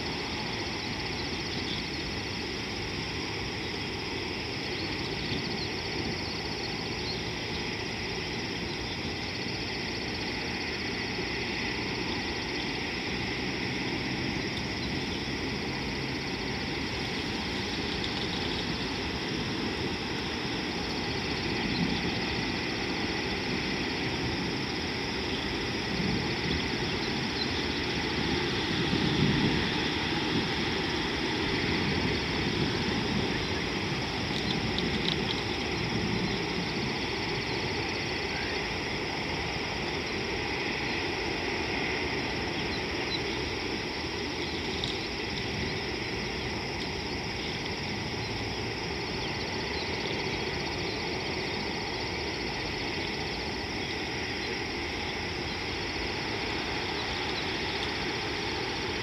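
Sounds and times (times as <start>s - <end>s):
low river rumble: 0.0s - 59.0s.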